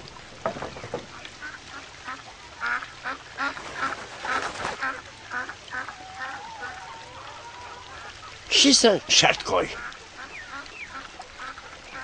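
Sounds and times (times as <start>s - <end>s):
ducks quacking: 1.4s - 12.0s.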